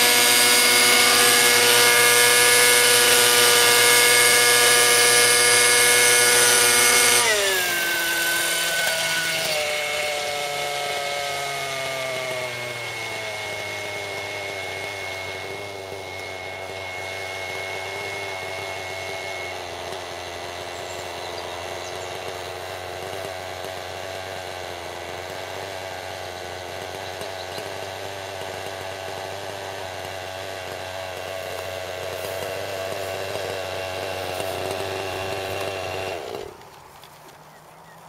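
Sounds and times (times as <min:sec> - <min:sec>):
model helicopter nitro engine: 0:00.0 - 0:38.0.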